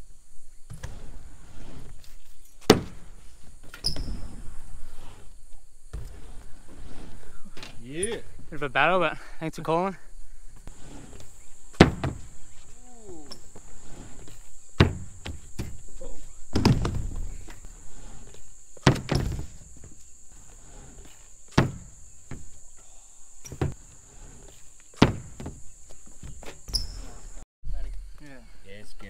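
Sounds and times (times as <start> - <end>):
bike tyres rolling on ramp: 0.2 - 9.4, 10.4 - 27.4
bike wheels thudding on ramp: 0.6 - 8.5, 10.6 - 27.4.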